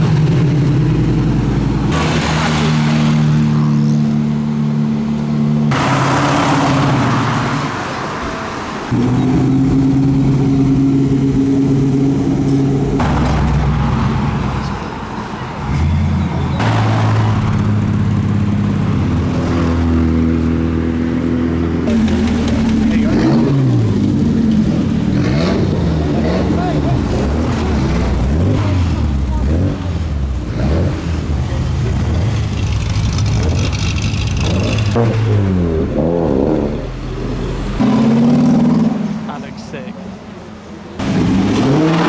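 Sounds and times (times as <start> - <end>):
car engines driving slowly past: 0.0 - 42.0.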